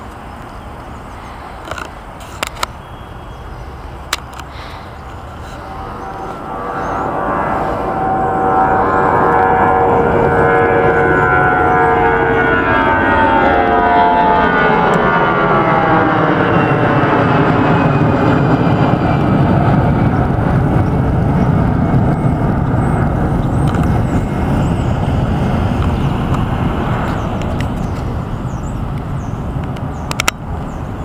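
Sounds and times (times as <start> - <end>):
deep jet engine rumble: 0.0 - 31.0
jet engine whine: 0.0 - 31.0.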